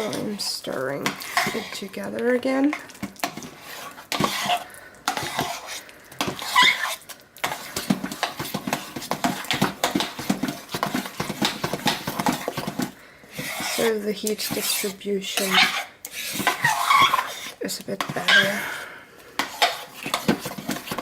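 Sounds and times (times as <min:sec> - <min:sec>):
utensil stirring thick soap in a pot: 0:00.0 - 0:21.0.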